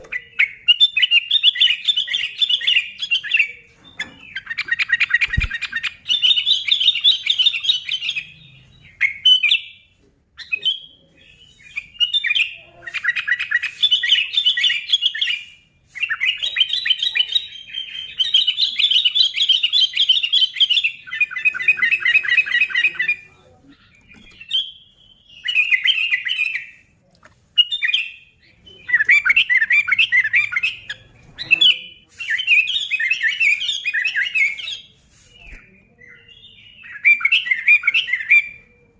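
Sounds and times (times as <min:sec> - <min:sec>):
bird chattering song: 0:00.0 - 0:26.9, 0:27.6 - 0:38.9.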